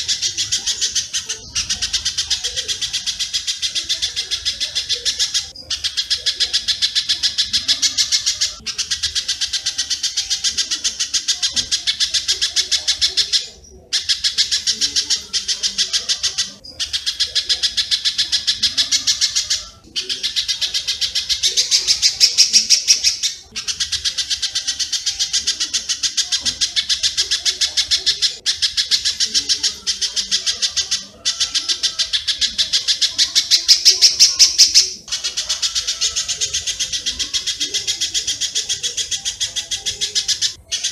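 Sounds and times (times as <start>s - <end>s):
bird sharp chirps: 0.0s - 40.9s.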